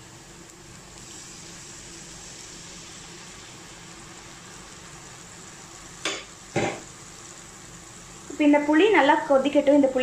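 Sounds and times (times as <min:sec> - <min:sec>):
onions frying in oil: 0:00.0 - 0:10.0.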